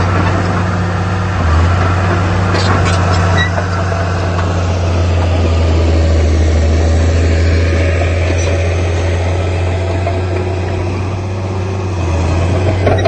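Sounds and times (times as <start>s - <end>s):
diesel engine low drone: 0.0s - 13.0s.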